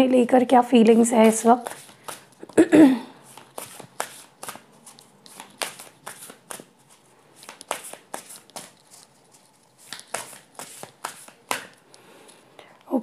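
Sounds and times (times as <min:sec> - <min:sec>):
cards being shuffled: 0:01.1 - 0:02.6, 0:03.2 - 0:12.4.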